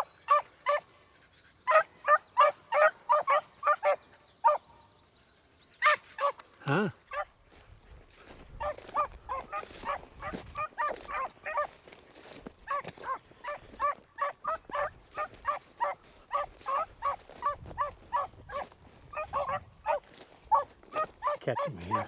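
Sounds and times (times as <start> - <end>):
hounds baying: 0.0 - 4.8, 5.7 - 22.0.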